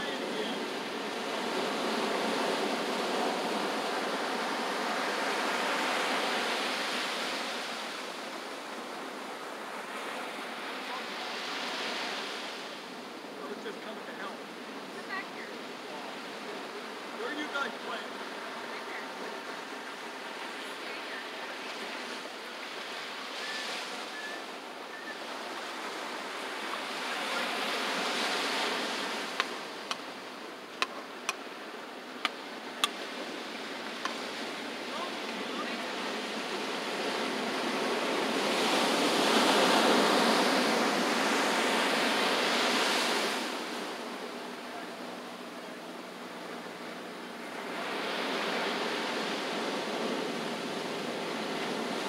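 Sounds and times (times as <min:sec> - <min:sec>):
ocean surf breaking: 0:00.0 - 0:52.0.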